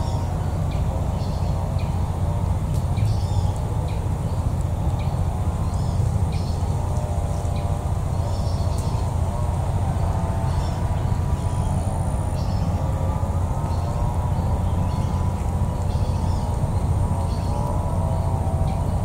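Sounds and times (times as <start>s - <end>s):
small birds chirping: 0.0s - 19.0s
steady low rumble: 0.0s - 19.0s.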